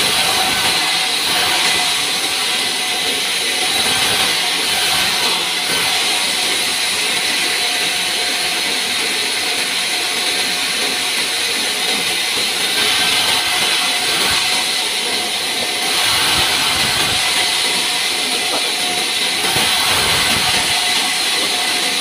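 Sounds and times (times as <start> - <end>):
band saw cutting wood: 0.0 - 22.0
constant machine tone: 0.0 - 22.0.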